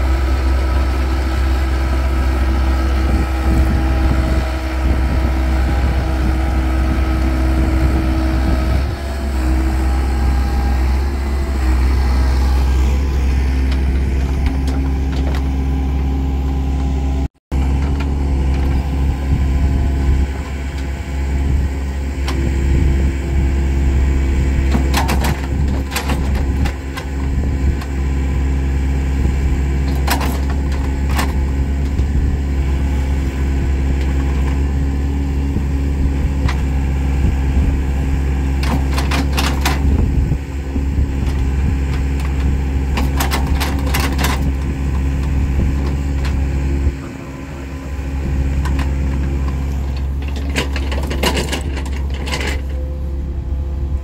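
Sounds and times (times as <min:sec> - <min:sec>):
excavator diesel engine running: 0:00.0 - 0:54.0
excavator digging wet mud: 0:00.0 - 0:54.0.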